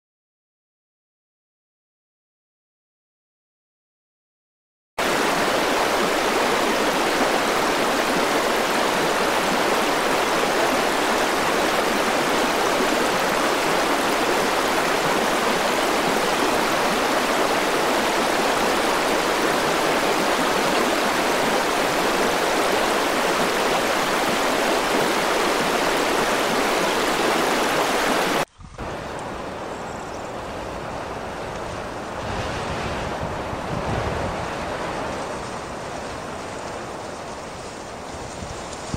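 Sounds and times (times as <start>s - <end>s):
river water rushing: 5.0s - 38.6s.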